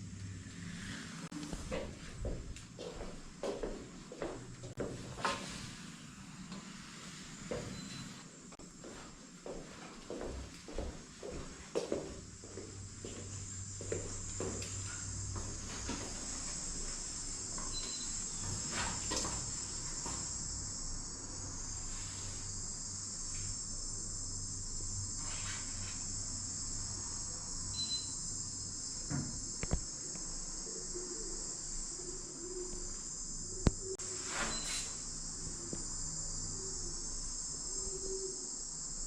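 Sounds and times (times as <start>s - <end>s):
crickets chirring: 0.1s - 39.0s.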